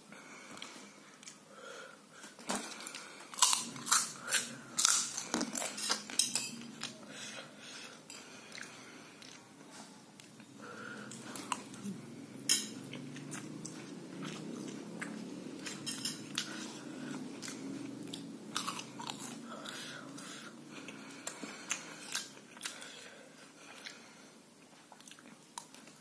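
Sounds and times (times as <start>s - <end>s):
chewing: 2.5s - 7.1s, 7.9s - 26.0s.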